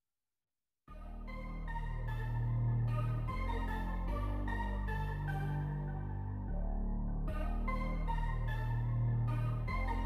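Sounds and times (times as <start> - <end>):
electronic music with synthesizer: 0.9 - 10.0.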